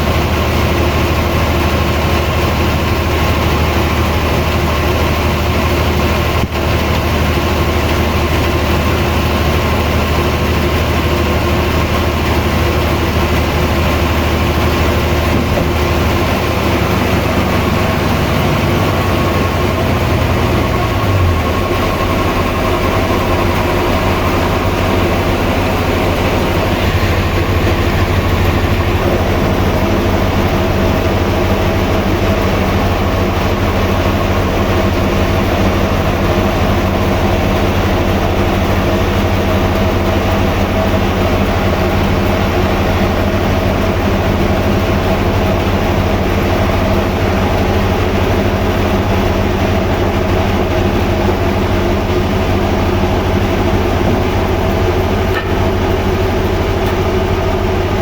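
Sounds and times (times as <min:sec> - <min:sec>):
sawmill machine drone: 0:00.0 - 0:58.0.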